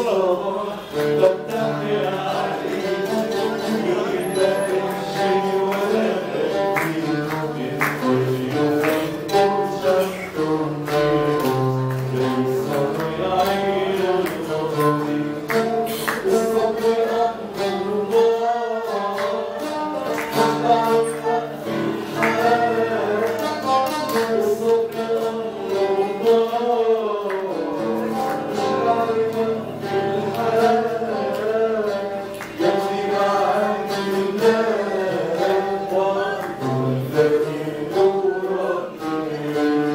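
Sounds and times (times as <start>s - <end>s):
guitar strumming and plucking: 0.0s - 39.9s
man singing: 0.0s - 39.9s.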